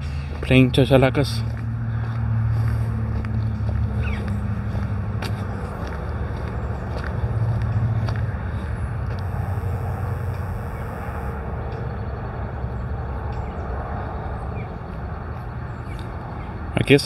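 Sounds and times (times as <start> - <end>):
low rumbling noise: 1.4 - 16.7.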